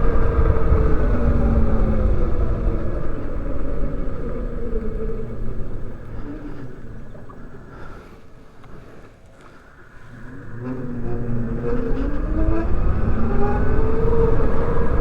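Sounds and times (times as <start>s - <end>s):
electric motorcycle drivetrain whine: 0.0s - 15.0s
wind and road noise: 0.0s - 15.0s.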